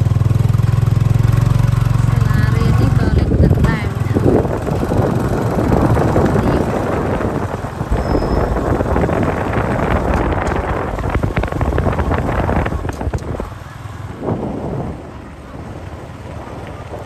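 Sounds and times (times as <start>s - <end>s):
road noise: 0.0s - 17.0s
vehicle engine: 0.0s - 17.0s
wind buffeting microphone: 1.2s - 17.0s.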